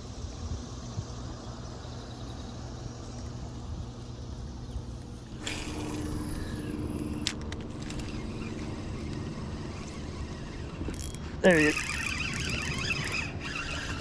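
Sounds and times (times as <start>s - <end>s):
boat engine rumble: 0.0s - 14.0s
low hum and hiss: 0.0s - 14.0s.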